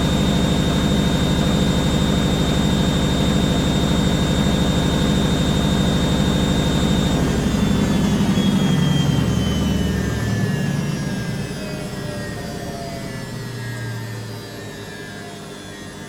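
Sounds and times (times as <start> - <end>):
washing machine spinning: 0.0 - 15.2.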